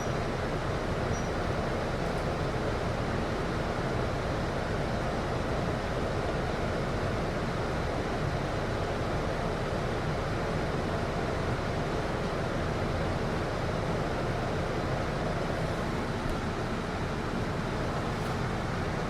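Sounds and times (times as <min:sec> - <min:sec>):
air conditioning blowing: 0:00.0 - 0:19.0.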